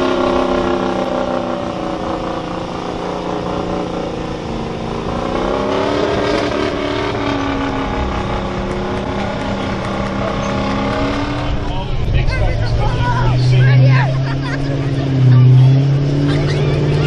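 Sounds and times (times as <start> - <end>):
heavy vehicle engine running hard: 0.0 - 17.0.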